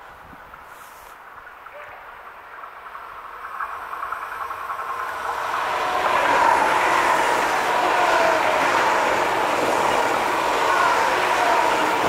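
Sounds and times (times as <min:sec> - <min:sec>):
high-speed train approaching: 0:00.0 - 0:12.0.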